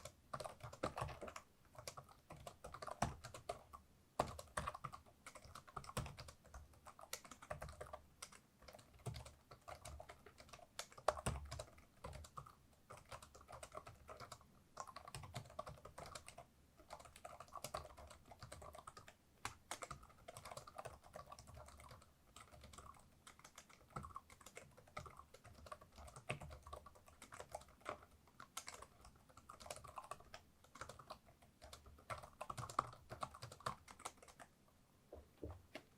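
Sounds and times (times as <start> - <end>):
laptop keyboard typing: 0.0 - 34.6.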